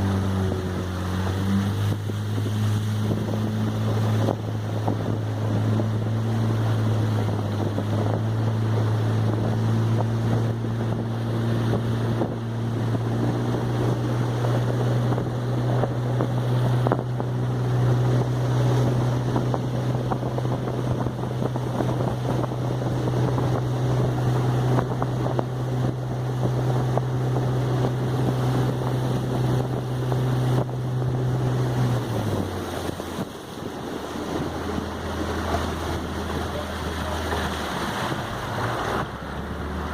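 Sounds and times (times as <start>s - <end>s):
boat engine running: 0.0s - 39.9s
water rushing: 0.0s - 39.9s
wind buffeting microphone: 0.0s - 39.9s.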